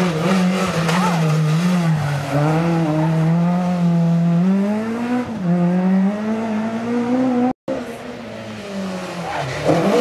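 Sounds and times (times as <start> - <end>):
rally car engine at full throttle: 0.0 - 10.0.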